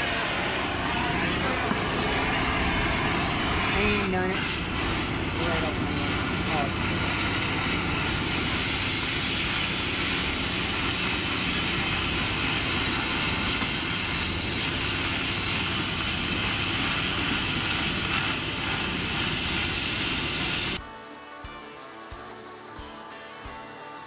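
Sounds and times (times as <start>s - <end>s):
cutting torch hissing: 0.0s - 24.0s.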